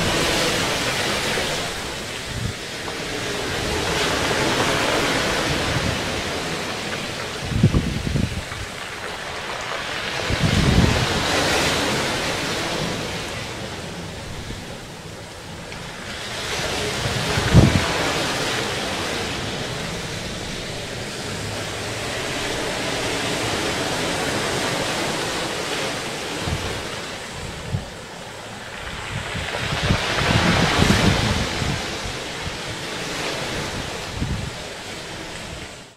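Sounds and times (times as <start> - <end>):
surf breaking on rocky shore: 0.0 - 35.9
wind buffeting microphone: 0.0 - 35.9.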